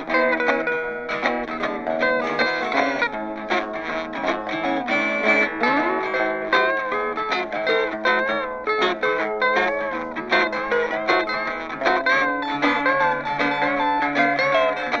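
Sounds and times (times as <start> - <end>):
guitar music with plucked notes: 0.0 - 15.0.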